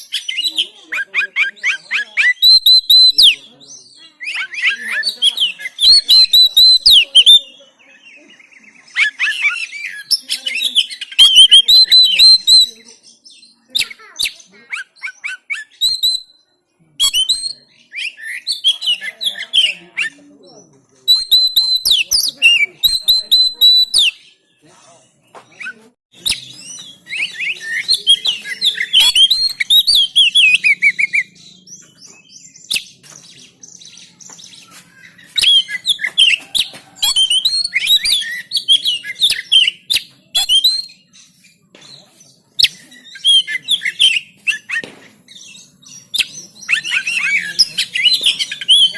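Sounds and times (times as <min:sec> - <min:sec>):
bird singing whistles and chatter: 0:00.0 - 0:48.9.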